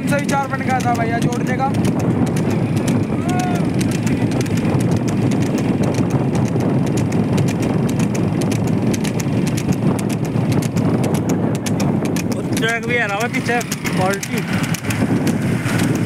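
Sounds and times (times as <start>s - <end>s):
cart wheels rumbling on road: 0.0s - 16.0s
hooves clip-clopping on asphalt: 0.0s - 16.0s
wind on microphone: 0.0s - 16.0s.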